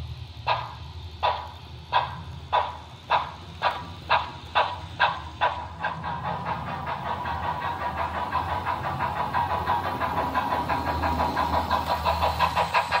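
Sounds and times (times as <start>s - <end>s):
model steam locomotive chuffing: 0.0s - 13.0s
model train rolling on track: 0.0s - 13.0s.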